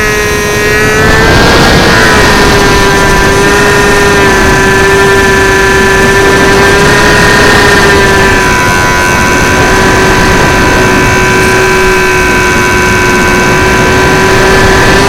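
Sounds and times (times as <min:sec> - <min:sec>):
electric motor and propeller whining: 0:00.0 - 0:15.0
wind rushing over microphone: 0:00.0 - 0:15.0.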